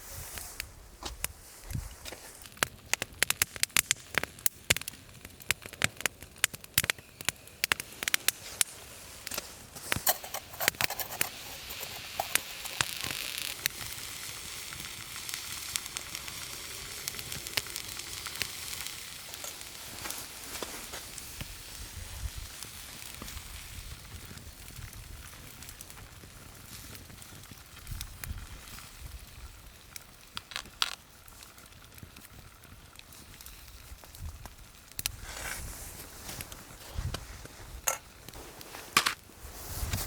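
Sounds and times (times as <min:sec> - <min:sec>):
fire sizzling hiss: 0:00.0 - 0:40.0
wood fire crackling and popping: 0:01.0 - 0:40.0.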